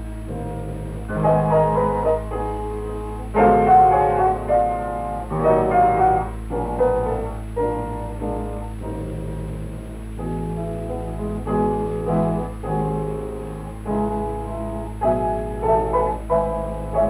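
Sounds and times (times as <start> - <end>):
faint low recording hum: 0.0 - 17.0
piano melody over chords: 0.0 - 17.0.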